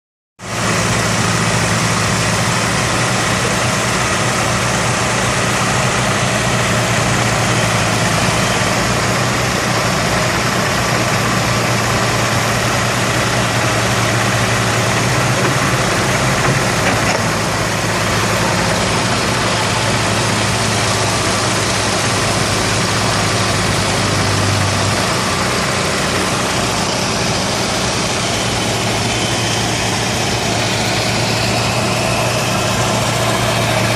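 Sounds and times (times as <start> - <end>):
dense mechanical rumble: 0.4 - 33.9
excavator engine humming: 0.4 - 33.9.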